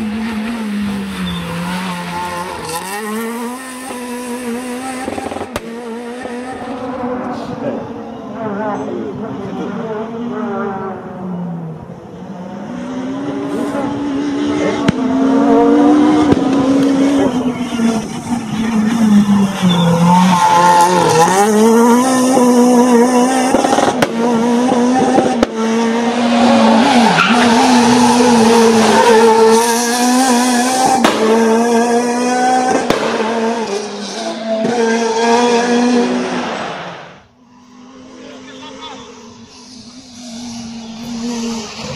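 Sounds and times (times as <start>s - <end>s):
car engine revving hard: 0.0s - 11.3s, 12.2s - 41.9s.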